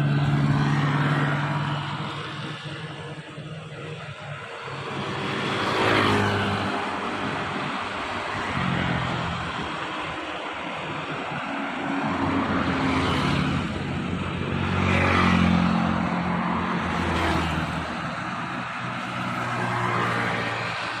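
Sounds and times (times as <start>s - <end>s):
car engine hum: 0.0s - 21.0s
wet road noise: 0.0s - 21.0s.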